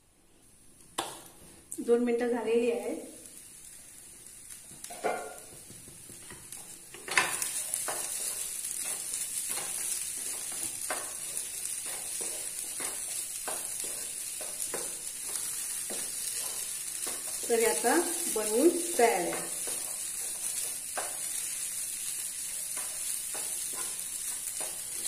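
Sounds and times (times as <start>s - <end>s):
filling sizzling in a pan: 0.6s - 25.0s
wooden spatula scraping a pan: 4.4s - 25.0s.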